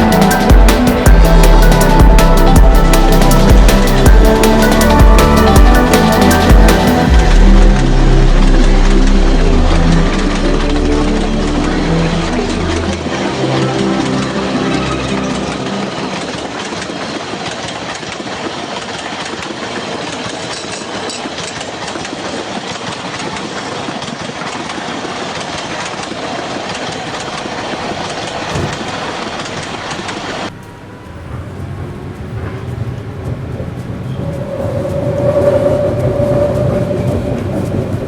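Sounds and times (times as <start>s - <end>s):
locomotive engine hum: 0.0s - 38.0s
train rattling along rails: 0.0s - 38.0s.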